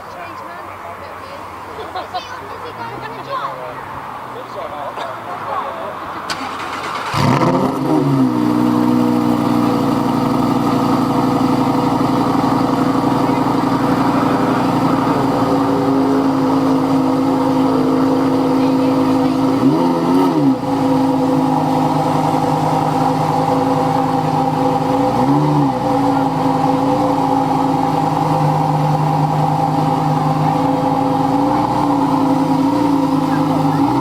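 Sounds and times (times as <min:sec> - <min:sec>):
car engine idling: 0:00.0 - 0:34.0
engine revving: 0:06.2 - 0:34.0.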